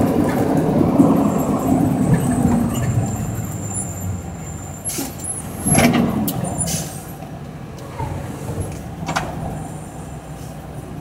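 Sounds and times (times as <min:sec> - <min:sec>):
diesel engine low rumble: 0:00.0 - 0:11.0.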